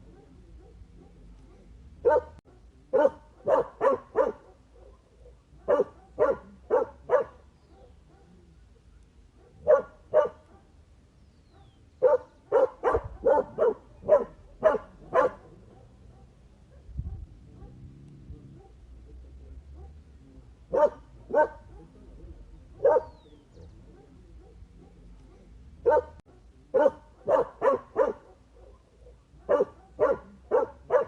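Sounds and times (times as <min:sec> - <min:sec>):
dog barking: 0:00.0 - 0:10.8, 0:11.5 - 0:31.0.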